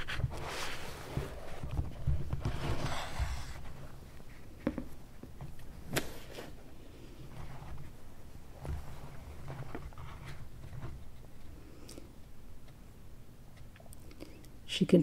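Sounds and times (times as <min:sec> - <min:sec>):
soft rustling: 0:00.0 - 0:12.2
low room rumble: 0:00.0 - 0:15.0.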